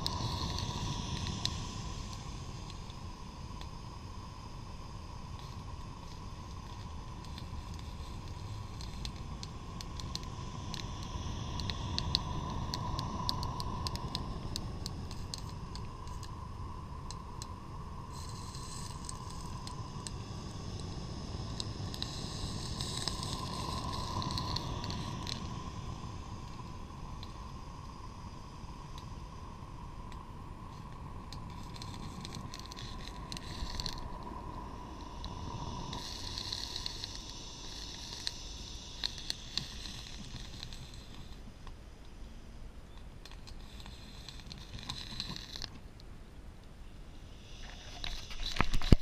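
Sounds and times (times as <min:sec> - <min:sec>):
faint hum: 0:00.0 - 0:49.0
steady hiss: 0:00.0 - 0:49.0.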